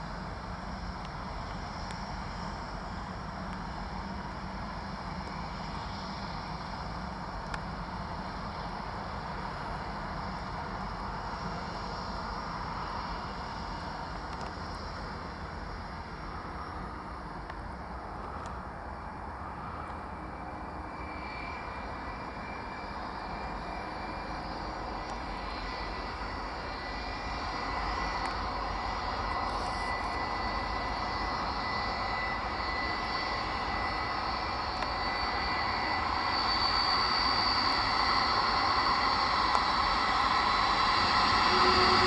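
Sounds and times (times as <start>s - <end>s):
high engine whine: 0.0s - 42.0s
jet engines running: 0.0s - 42.0s.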